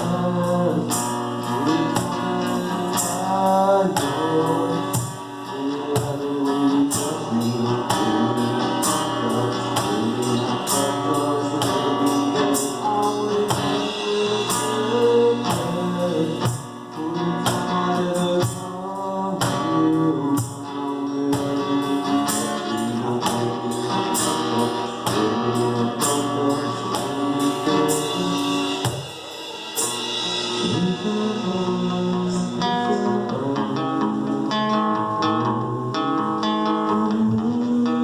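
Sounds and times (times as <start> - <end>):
percussion beat: 0.0 - 33.3
acoustic guitar: 0.0 - 38.0
person singing: 0.0 - 38.0.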